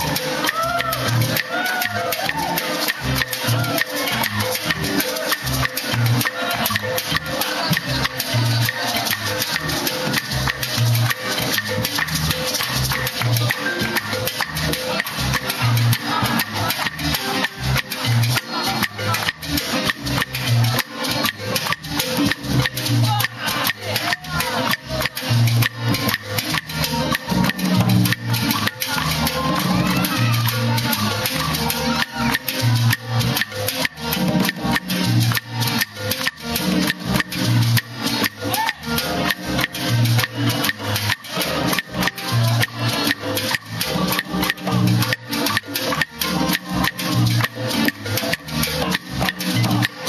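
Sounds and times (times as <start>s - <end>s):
congas and latin percussion: 0.0s - 50.0s
repeating bass line: 0.0s - 50.0s.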